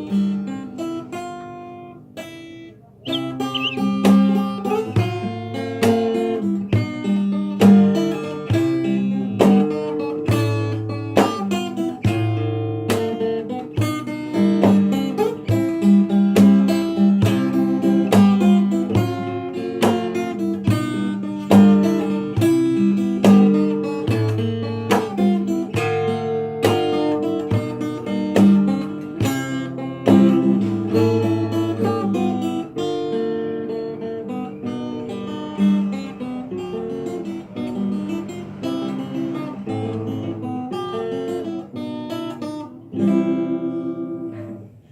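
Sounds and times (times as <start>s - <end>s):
fingerstyle acoustic guitar: 0.0s - 44.9s.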